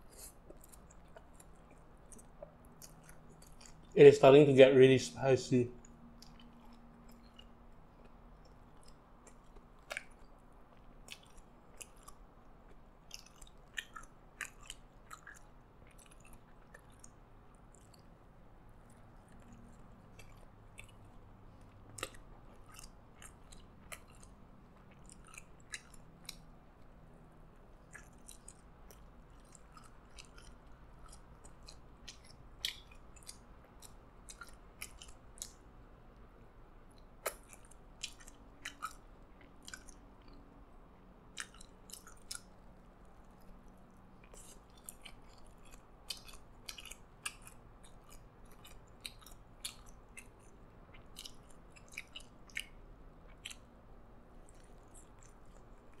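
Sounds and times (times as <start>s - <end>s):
close chewing clicks: 0.0s - 4.4s, 5.7s - 56.0s.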